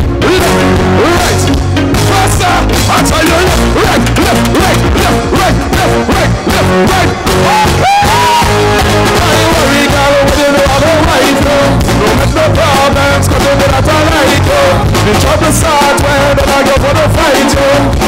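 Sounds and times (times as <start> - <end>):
bending melody line: 0.0 - 18.0
drum kit beat: 0.0 - 18.0
electric bass: 0.0 - 18.0.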